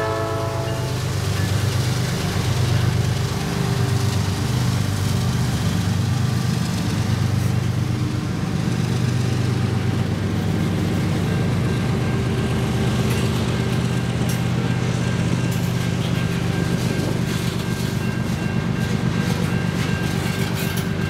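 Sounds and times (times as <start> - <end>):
diesel locomotives droning: 0.0 - 21.0
freight cars rolling on rails: 0.0 - 21.0.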